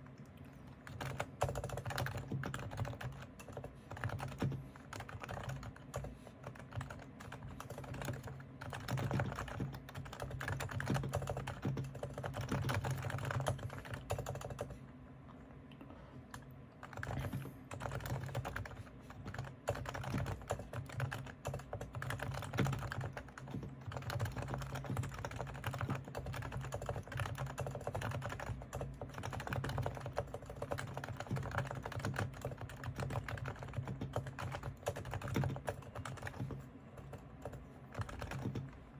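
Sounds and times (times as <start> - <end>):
soft keyboard typing: 0.0 - 14.8, 16.3 - 38.9.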